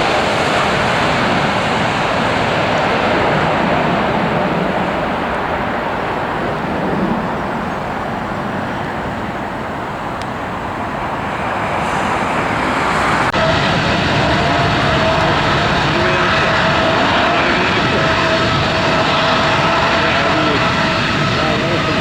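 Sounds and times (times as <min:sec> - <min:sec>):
engine whine: 0:00.0 - 0:22.0
jet engine rushing: 0:00.0 - 0:22.0.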